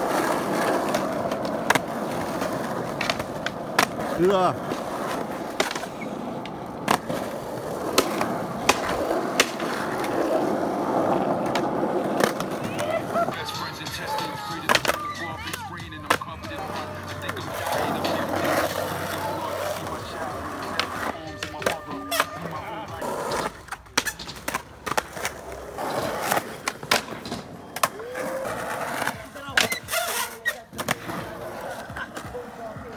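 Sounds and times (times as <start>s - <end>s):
skateboard clacking on ground: 0.0s - 32.9s
skateboard wheels rolling on concrete: 0.0s - 32.9s.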